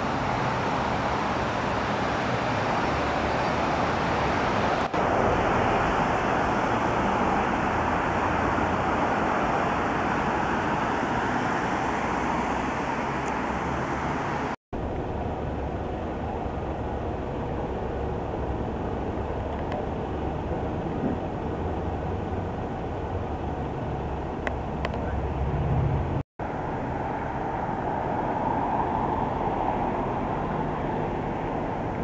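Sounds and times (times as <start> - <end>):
passing cars: 0.0 - 32.0.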